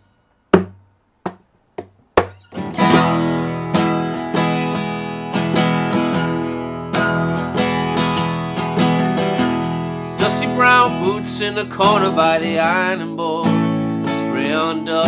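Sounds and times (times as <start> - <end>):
acoustic guitar strumming chords: 2.2 - 15.0.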